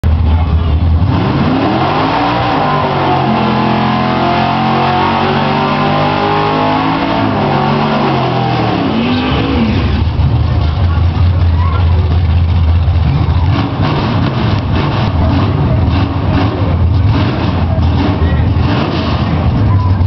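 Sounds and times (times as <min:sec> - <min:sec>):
car engine revving: 0:00.1 - 0:20.0.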